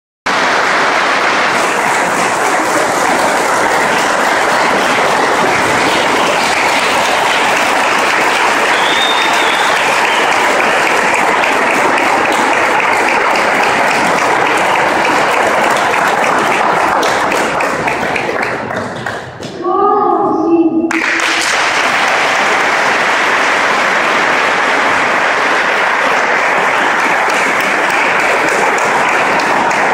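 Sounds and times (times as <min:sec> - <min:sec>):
crowd applauding: 0:00.3 - 0:19.5, 0:20.9 - 0:29.9.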